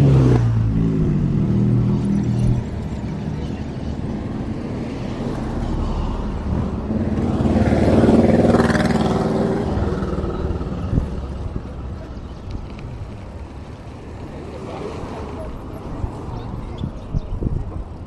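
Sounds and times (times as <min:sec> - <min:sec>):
vehicle passing by: 0:00.0 - 0:16.8.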